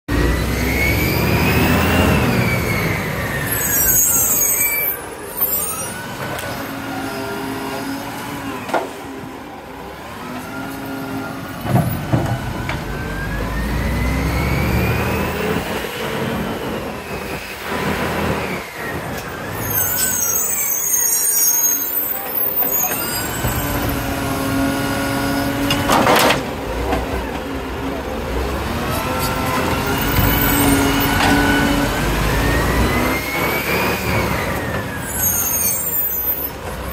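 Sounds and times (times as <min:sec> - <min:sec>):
diesel engine revving: 0:00.1 - 0:04.7, 0:05.6 - 0:20.9, 0:22.7 - 0:36.9.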